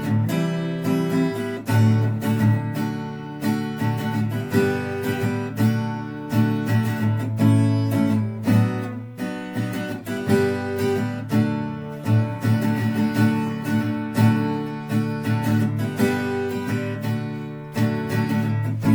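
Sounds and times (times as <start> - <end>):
acoustic guitar strumming: 0.0 - 18.9.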